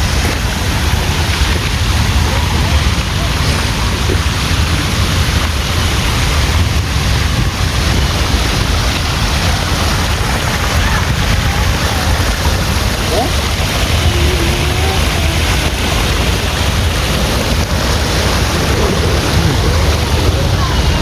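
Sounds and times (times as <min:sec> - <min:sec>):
water rushing from waterfall: 0:00.0 - 0:21.0
wind buffeting microphone: 0:00.0 - 0:21.0.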